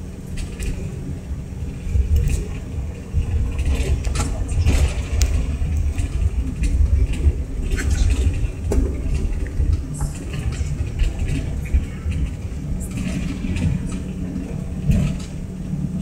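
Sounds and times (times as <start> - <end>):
jet cabin low rumble: 0.0 - 16.0.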